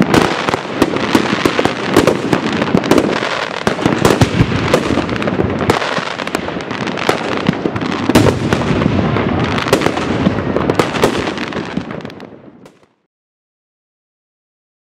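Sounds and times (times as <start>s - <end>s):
fireworks bangs: 0.0s - 13.1s
fireworks crackling: 0.0s - 13.1s.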